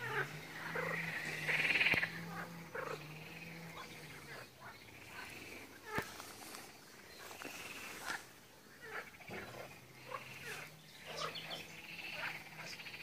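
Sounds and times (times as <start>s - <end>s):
animal calls and buzzy trills: 0.0s - 13.0s.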